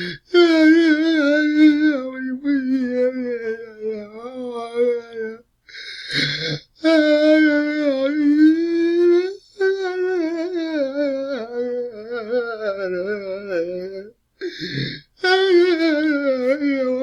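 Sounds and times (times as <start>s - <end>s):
man crying with wailing moans: 0.0s - 5.4s, 6.1s - 17.0s.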